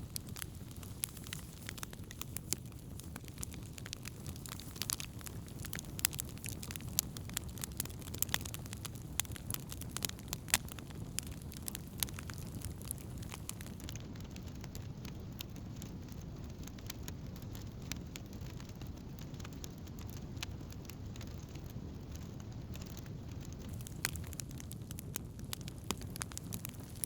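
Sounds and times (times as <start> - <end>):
campfire crackling: 0.0 - 27.0
low rush of burning: 0.0 - 27.0.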